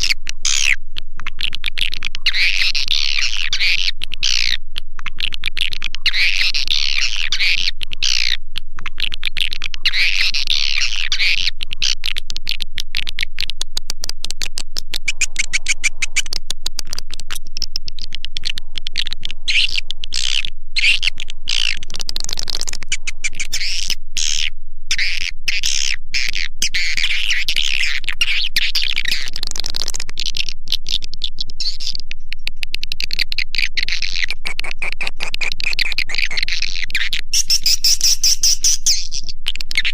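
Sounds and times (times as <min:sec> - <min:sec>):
swiftlets twittering and chirping: 0:00.0 - 0:13.6, 0:14.2 - 0:39.9.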